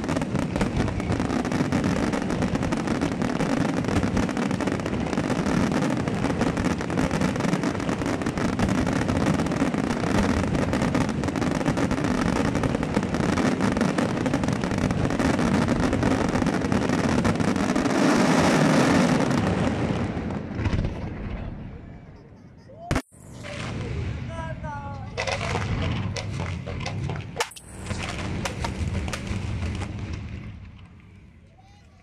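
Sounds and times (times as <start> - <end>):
fireworks crackling: 0.0 - 21.6, 22.9 - 32.0
fireworks low rumble: 0.0 - 32.0.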